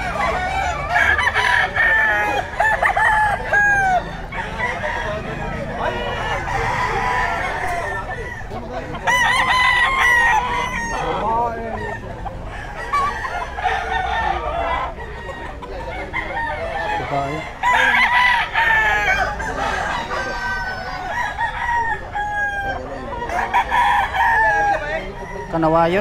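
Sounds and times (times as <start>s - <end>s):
roosters crowing: 0.0s - 26.0s.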